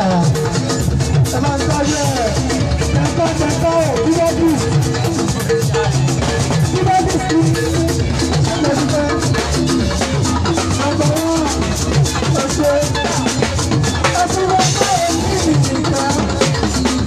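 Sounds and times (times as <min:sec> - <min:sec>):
drum kit and shakers beat: 0:00.0 - 0:17.0
gospel band music: 0:00.0 - 0:17.0.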